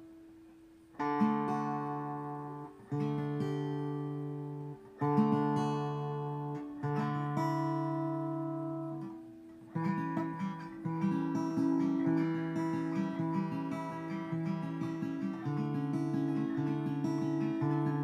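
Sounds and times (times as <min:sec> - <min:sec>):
guitar picked notes: 0:00.0 - 0:18.0
guitar strumming: 0:00.0 - 0:18.0.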